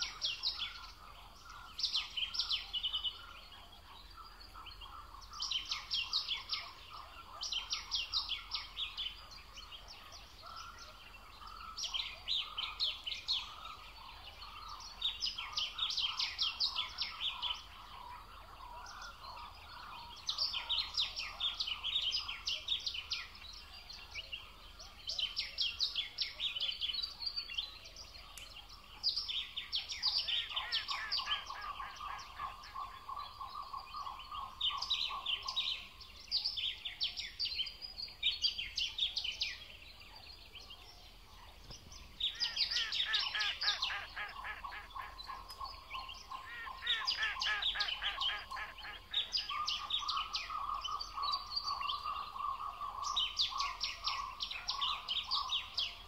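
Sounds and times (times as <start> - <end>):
songbird singing chattering phrases: 0.0 - 56.0.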